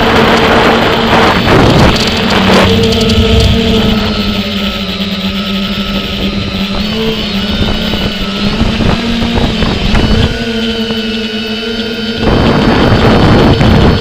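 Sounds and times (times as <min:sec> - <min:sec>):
drone propellers buzzing: 0:00.0 - 0:14.0.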